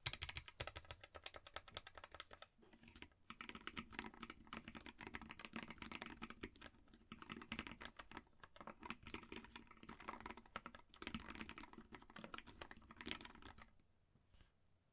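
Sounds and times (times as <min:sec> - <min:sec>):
keyboard typing clicks: 0:00.0 - 0:13.6.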